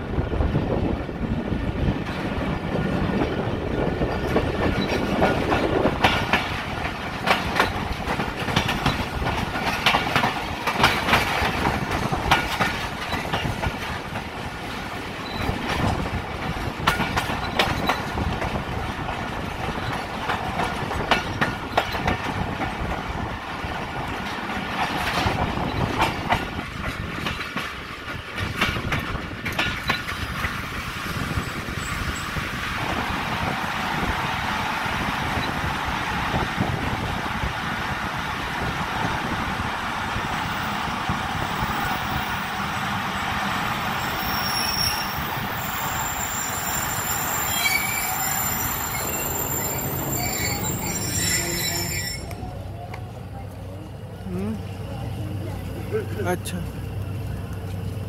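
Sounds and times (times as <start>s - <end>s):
train wheels rumbling on rail: 0.0s - 58.0s
wheels clacking over rail joints: 1.8s - 58.0s.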